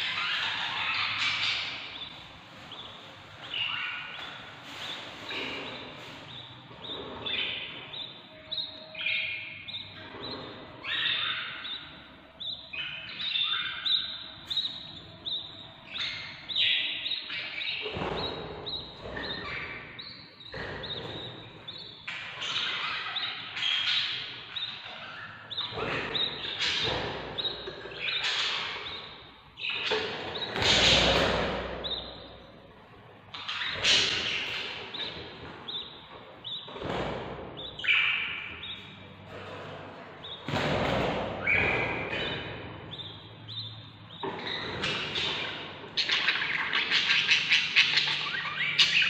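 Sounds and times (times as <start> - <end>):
bird chicks chirping: 0.0 - 49.0.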